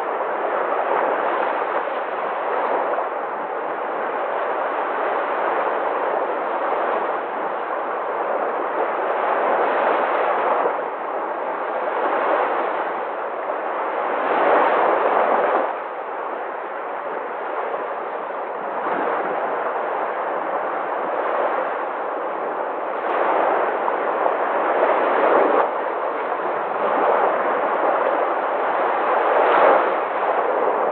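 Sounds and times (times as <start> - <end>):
sea waves washing onto shore: 0.0 - 30.9.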